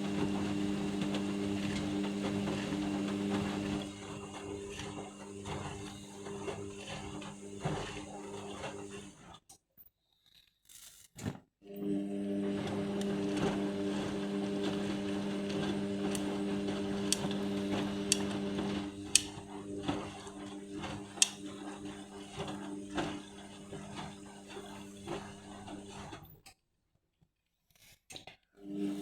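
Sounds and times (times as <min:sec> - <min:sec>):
washing machine motor hum: 0:00.0 - 0:09.3, 0:11.7 - 0:26.3, 0:28.6 - 0:29.0.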